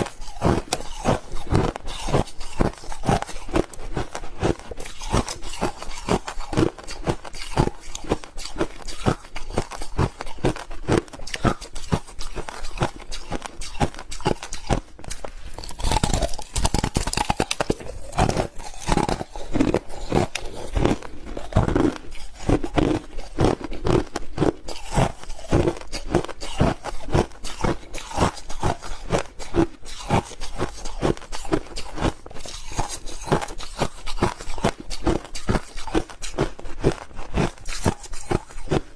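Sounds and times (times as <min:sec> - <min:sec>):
crunching ice being chewed: 0:00.0 - 0:38.9.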